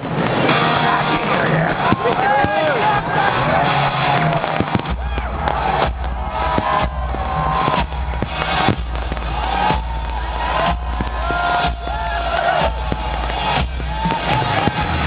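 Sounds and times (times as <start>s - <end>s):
crowd noise: 0.0s - 15.0s
fireworks exploding: 0.0s - 15.0s
music playing: 0.0s - 15.0s.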